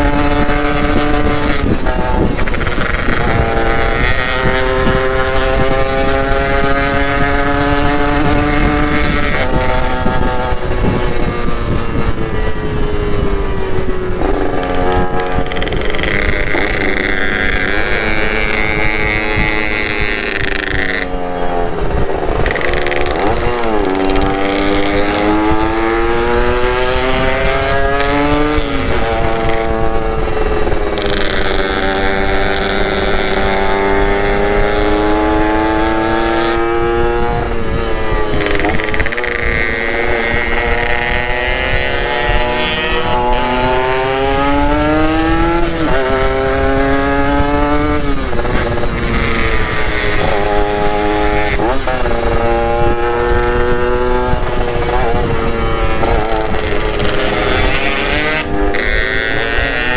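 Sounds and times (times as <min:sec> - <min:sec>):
two-stroke motorcycle engine revving: 0:00.0 - 0:59.9
wind and road noise: 0:00.0 - 0:59.9.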